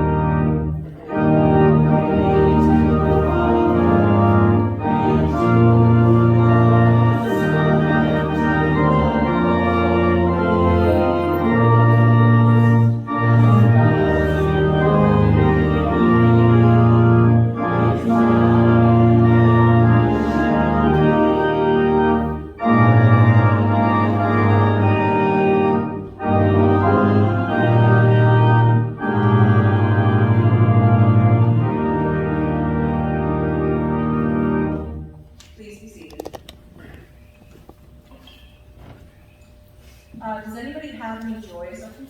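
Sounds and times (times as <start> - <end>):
organ playing sustained chords: 0.0 - 35.4.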